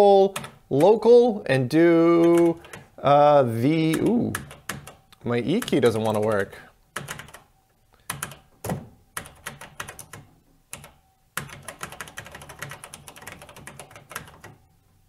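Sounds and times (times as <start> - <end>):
keyboard typing: 0.3 - 1.0, 2.0 - 2.9, 3.8 - 14.7.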